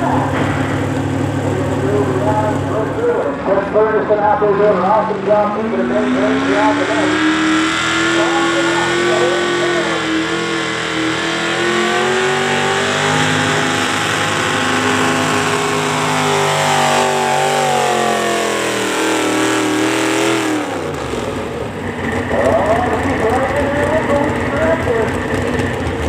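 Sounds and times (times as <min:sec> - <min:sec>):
tractor engine at high revs: 0:00.0 - 0:26.0.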